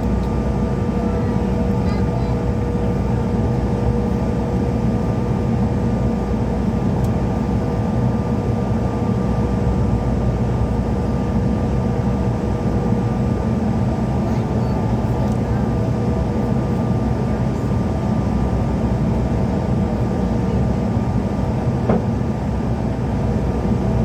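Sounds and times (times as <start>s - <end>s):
jet cabin engine rumble and whine: 0.0s - 24.0s.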